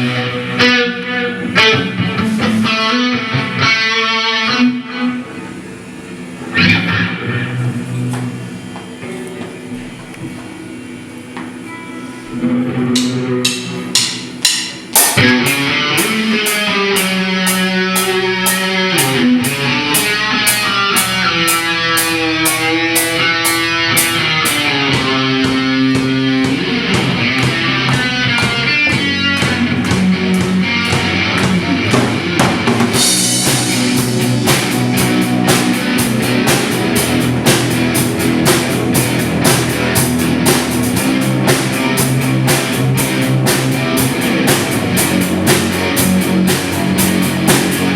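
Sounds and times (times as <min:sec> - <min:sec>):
live rock band playing: 0:00.0 - 0:09.2, 0:11.6 - 0:47.9.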